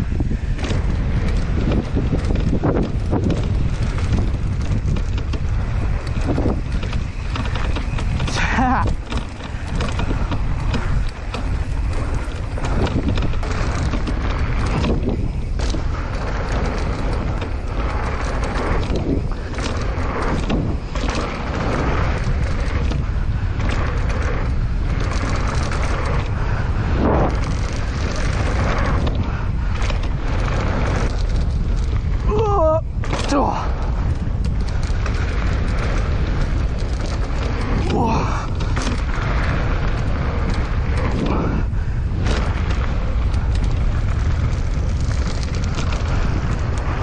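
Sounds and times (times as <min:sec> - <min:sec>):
bike clicks and rattles: 0:00.0 - 0:47.0
tyre and trail noise: 0:00.0 - 0:47.0
wind buffeting microphone: 0:00.0 - 0:47.0.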